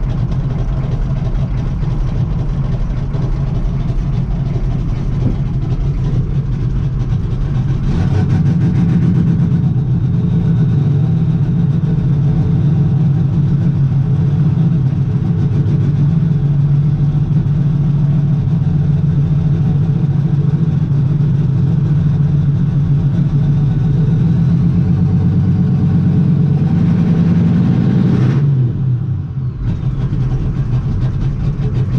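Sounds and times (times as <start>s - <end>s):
diesel engine idling: 0.0s - 27.9s, 28.6s - 31.9s.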